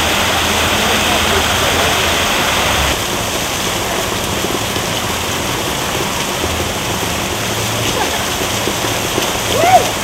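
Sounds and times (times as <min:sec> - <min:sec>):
fountain water splashing on wood: 0:00.0 - 0:10.0.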